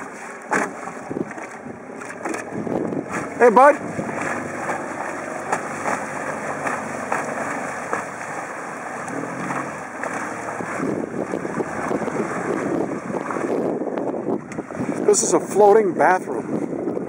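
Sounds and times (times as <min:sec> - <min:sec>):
outboard motor running: 0:00.0 - 0:17.0
water rushing in wake: 0:00.0 - 0:17.0.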